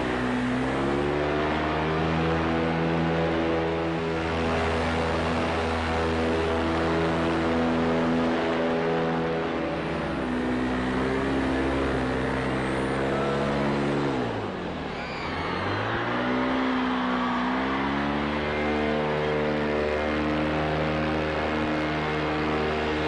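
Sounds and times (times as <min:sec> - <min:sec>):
paramotor engine and propeller: 0:00.0 - 0:23.0.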